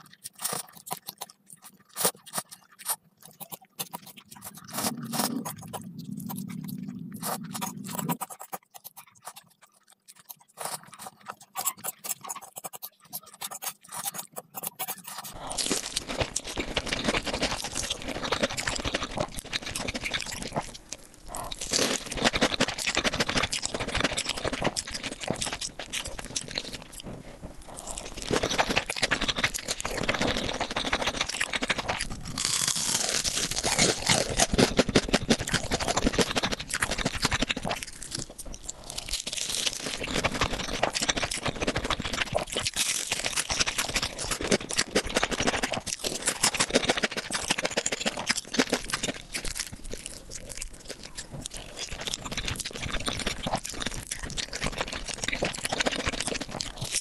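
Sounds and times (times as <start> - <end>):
food being chewed: 0.0 - 57.0.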